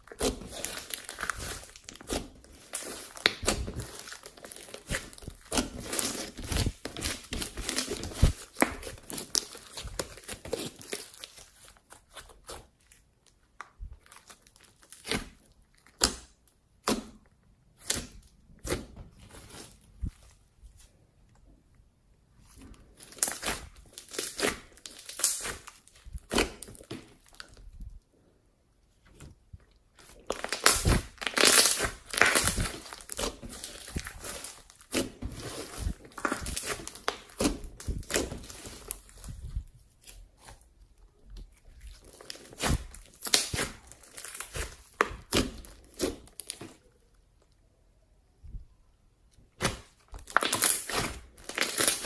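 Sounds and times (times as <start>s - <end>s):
slime crackling and popping: 0.0s - 19.8s, 22.8s - 27.7s, 29.9s - 46.9s, 49.5s - 52.0s.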